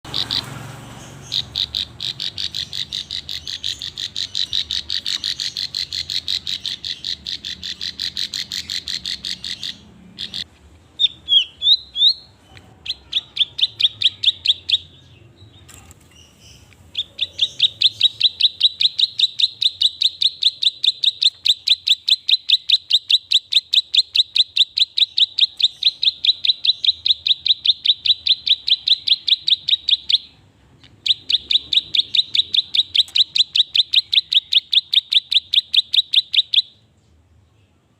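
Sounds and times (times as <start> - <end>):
songbird sharp high chirps: 0.1 - 36.9.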